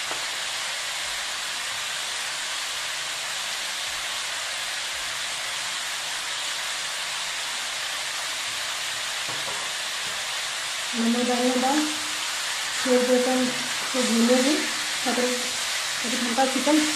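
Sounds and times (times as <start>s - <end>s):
chicken sizzling in oil: 0.0s - 16.9s.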